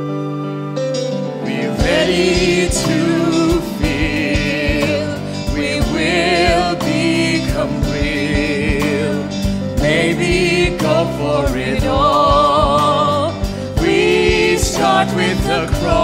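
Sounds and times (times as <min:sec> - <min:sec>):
held chords: 0:00.0 - 0:16.0
steady drum beat: 0:01.7 - 0:16.0.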